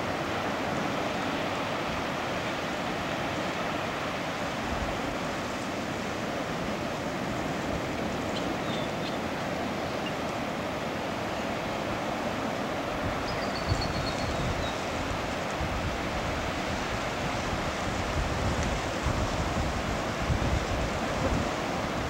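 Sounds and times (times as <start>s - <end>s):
small waves breaking on shore: 0.0s - 22.0s.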